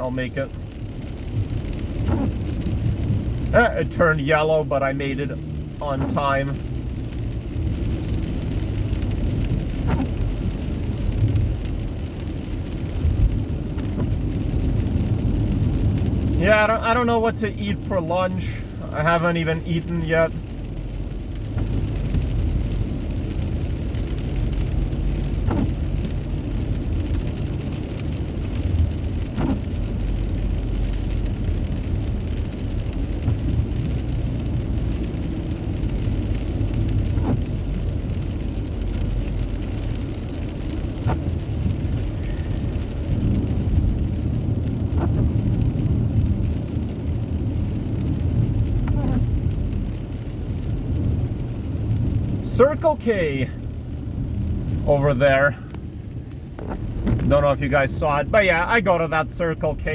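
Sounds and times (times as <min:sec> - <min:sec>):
rain on car: 0:00.0 - 0:59.9
road and engine rumble: 0:00.0 - 0:59.9
windscreen wipers swishing: 0:00.0 - 0:59.9.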